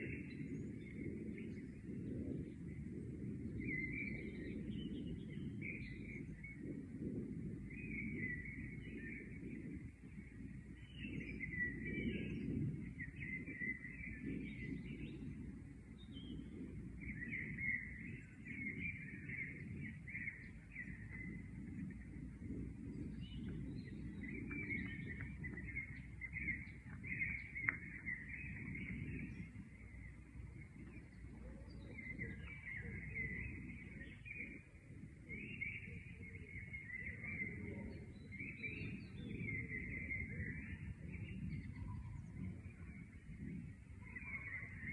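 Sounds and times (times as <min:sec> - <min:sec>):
low background rumble: 0:00.0 - 0:44.9
small birds chirping: 0:00.0 - 0:44.9.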